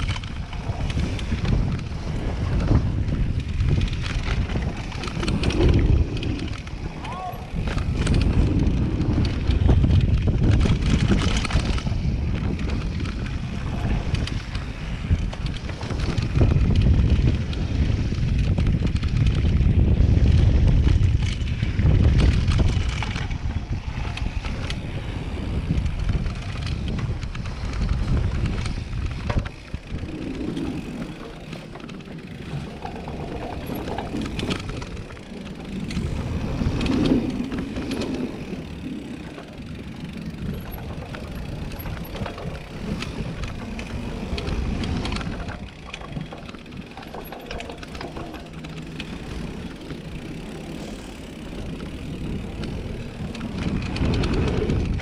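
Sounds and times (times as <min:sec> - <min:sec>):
mountain bike rattling and clattering: 0:00.0 - 0:55.0
wind buffeting microphone: 0:00.0 - 0:55.0.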